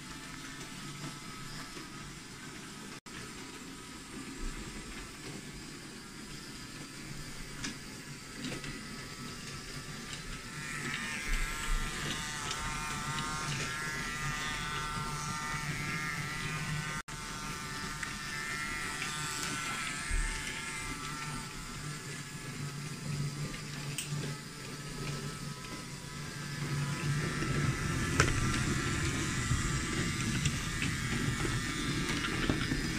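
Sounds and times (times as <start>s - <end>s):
toy train motors whirring: 0.0s - 32.9s.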